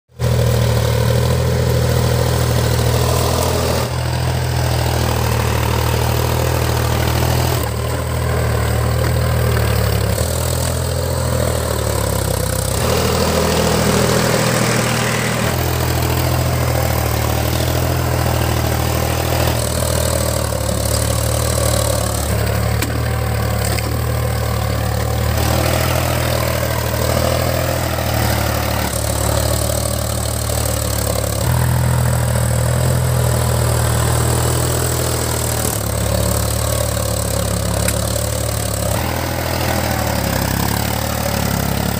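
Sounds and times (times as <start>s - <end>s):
diesel tractor engine running: 0.1s - 41.9s.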